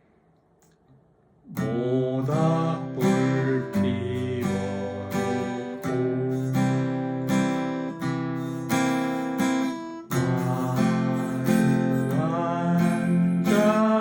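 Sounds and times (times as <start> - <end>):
acoustic guitar strummed: 1.5 - 14.0.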